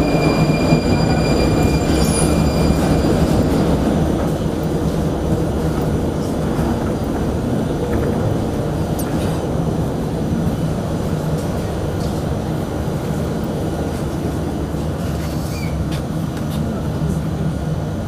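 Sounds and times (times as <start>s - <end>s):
train rumbling through tunnel: 0.0s - 18.0s.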